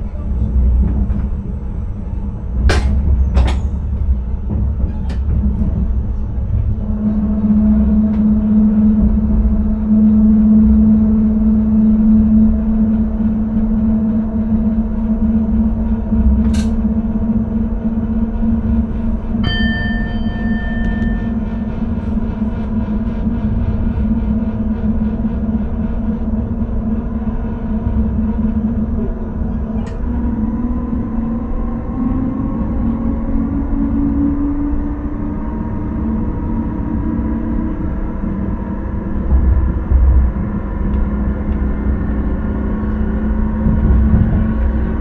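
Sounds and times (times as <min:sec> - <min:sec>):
train electric hum: 0:00.0 - 0:45.0
train wheels rumbling: 0:00.0 - 0:45.0.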